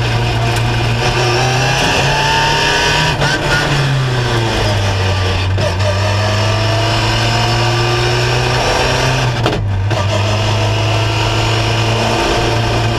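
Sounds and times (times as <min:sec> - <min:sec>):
race car engine pulling hard: 0:00.0 - 0:12.9.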